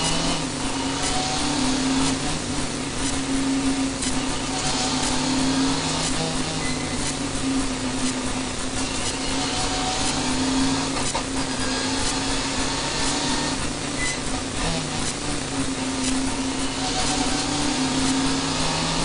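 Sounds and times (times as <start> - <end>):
rally car engine drone: 0.0 - 19.0.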